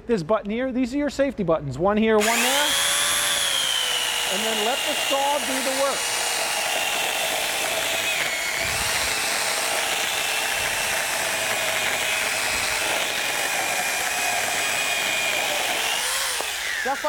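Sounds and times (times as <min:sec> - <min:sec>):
electric chainsaw cutting log: 0:02.2 - 0:17.0.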